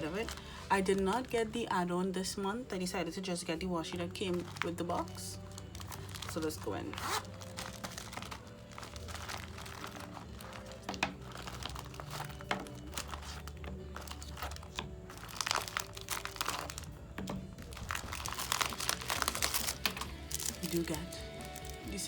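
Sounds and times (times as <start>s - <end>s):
plastic packaging crinkling: 0.0s - 1.7s, 3.8s - 22.0s
soft background music: 0.0s - 22.0s.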